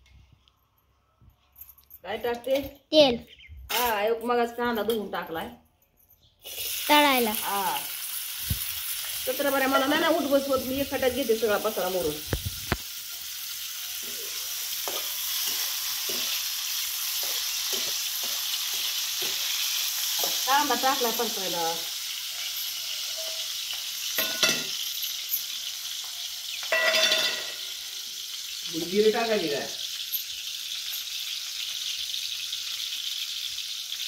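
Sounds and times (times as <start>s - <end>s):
onions frying in hot oil: 6.4s - 34.0s.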